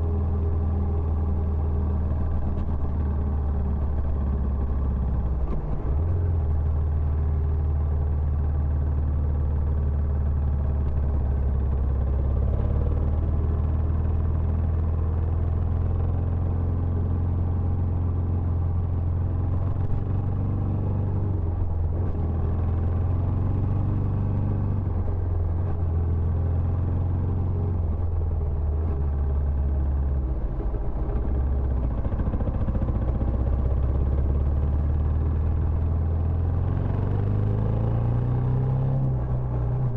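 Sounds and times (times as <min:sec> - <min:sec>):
motorcycle engine running: 0:00.1 - 0:37.7.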